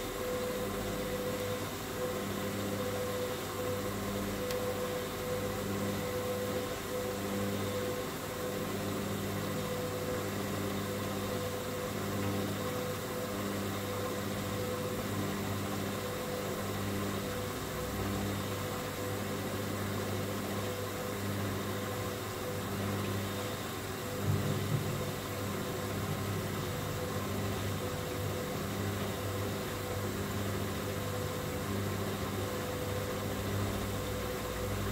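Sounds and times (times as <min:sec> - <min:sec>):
washing machine motor humming: 0:00.0 - 0:34.9.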